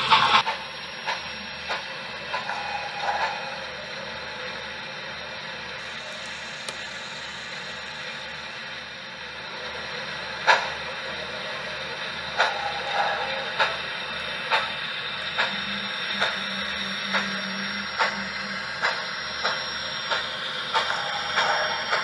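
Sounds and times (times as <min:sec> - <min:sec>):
model steam locomotive hissing: 0:00.0 - 0:22.0.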